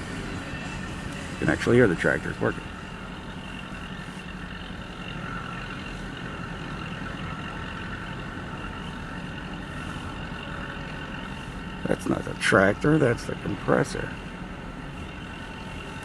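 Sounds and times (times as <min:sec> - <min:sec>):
compressor station drone: 0:00.0 - 0:16.0
constant mechanical whine: 0:00.0 - 0:16.0.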